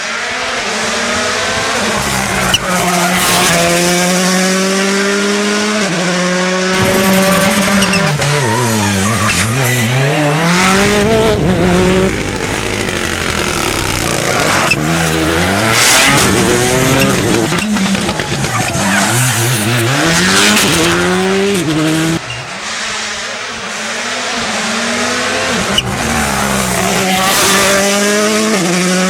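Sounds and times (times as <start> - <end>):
rally car engines accelerating: 0.0 - 29.0.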